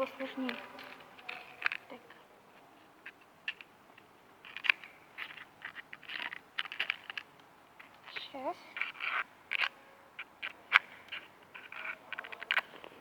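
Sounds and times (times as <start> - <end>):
bark and sticks crunching: 0.0 - 13.0.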